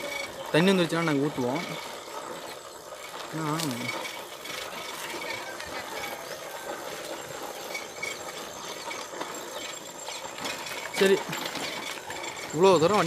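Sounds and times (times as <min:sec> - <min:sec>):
small clicks and rattles: 0:00.0 - 0:13.0.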